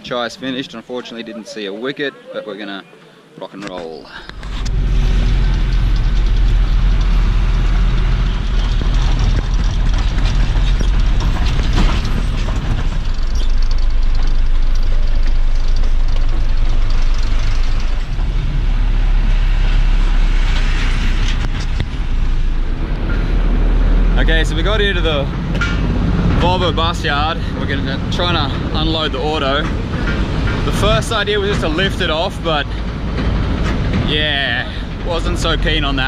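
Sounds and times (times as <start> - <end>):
road rumble: 2.9 - 36.0
truck engine: 4.1 - 36.0
rattling: 4.2 - 36.0.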